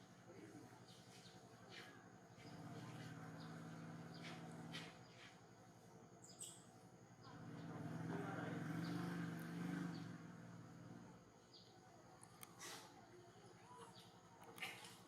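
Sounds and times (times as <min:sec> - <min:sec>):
birds chirping: 0:00.3 - 0:05.4, 0:06.2 - 0:15.0.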